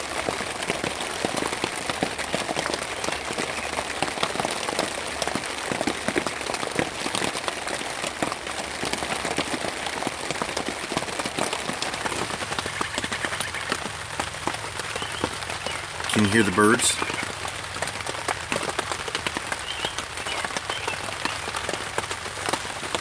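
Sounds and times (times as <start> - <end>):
rain pattering on tarp: 0.0 - 23.0.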